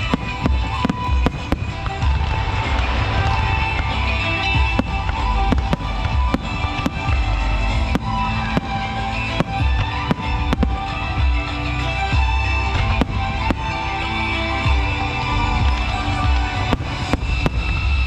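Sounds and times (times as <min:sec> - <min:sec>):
fireworks bangs and cracks: 0:00.0 - 0:18.0
music playing: 0:00.0 - 0:18.0.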